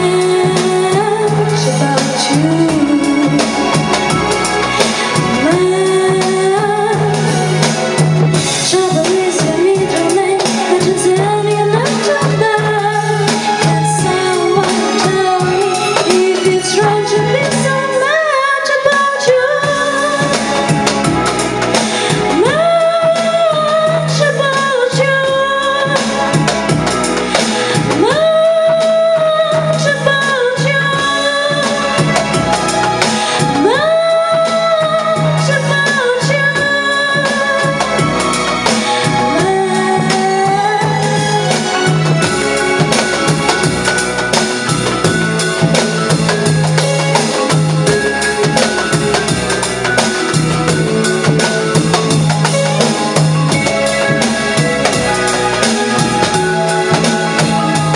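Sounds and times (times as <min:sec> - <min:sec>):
cajon beat: 0:00.0 - 0:18.1, 0:18.9 - 0:57.9
instrumental backing music: 0:00.0 - 0:57.9
woman singing pop song: 0:00.0 - 0:57.9.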